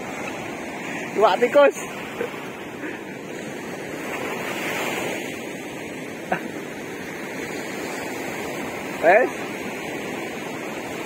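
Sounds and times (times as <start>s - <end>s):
surf washing on sand beach: 0.0s - 11.0s.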